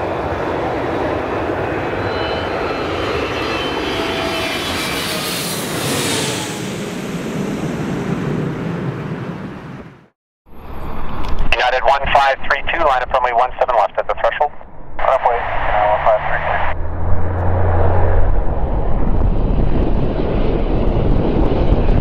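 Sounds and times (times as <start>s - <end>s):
high engine whine: 0.0s - 22.0s
jet airliner flying overhead: 0.0s - 22.0s.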